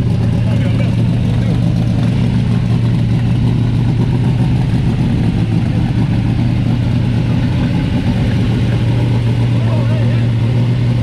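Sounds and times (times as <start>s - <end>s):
car engine idling loudly: 0.0s - 11.0s.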